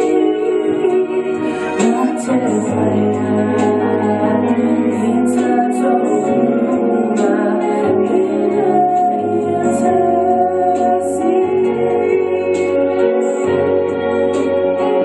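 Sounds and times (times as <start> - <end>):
instrumental backing with bass: 0.0 - 15.0
person singing slow song: 0.0 - 15.0.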